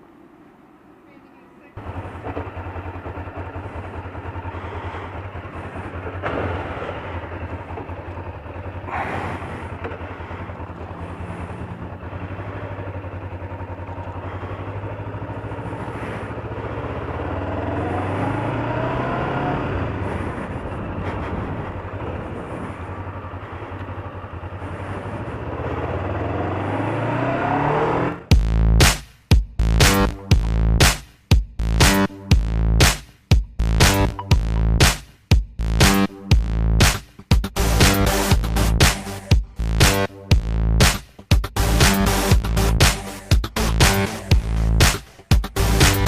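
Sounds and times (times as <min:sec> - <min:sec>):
motorcycle engine revving: 0:01.8 - 0:28.9, 0:35.6 - 0:46.0.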